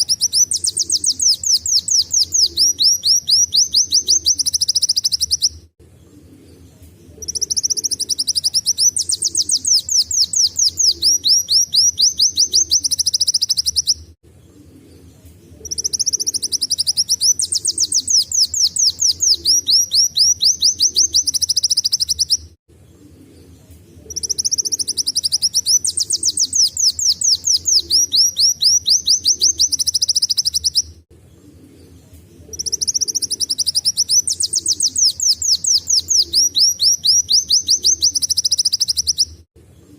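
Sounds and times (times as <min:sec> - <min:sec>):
sunbird singing: 0:00.0 - 0:39.5.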